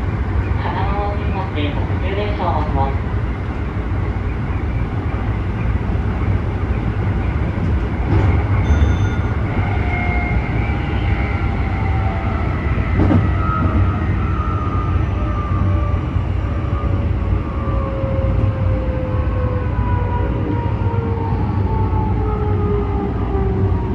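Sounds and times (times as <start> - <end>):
train wheels rumbling on rail: 0.0 - 23.9.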